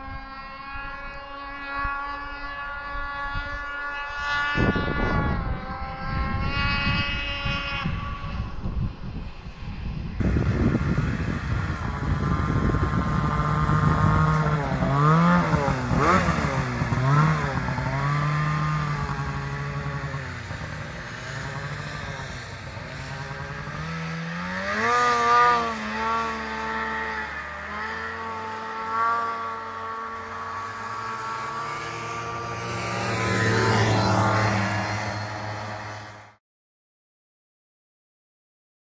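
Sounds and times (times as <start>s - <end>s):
snowmobile engine revving: 0.0s - 9.4s, 10.2s - 36.4s.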